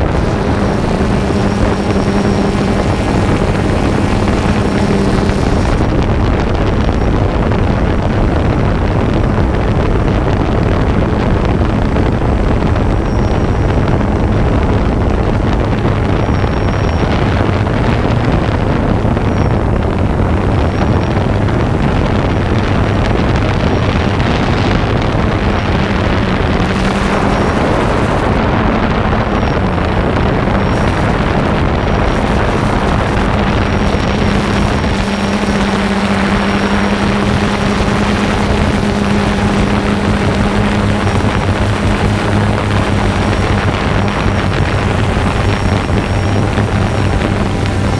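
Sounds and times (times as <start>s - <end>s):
drone propellers whirring: 0.0s - 47.9s
wind on microphone: 0.0s - 47.9s.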